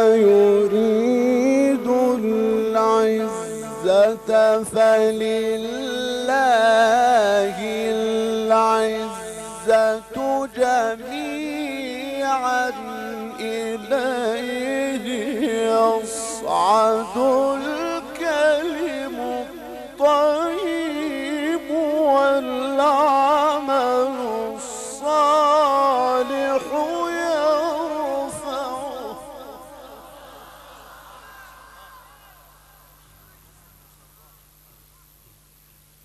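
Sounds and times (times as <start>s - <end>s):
man reciting melodically: 0.0s - 30.7s.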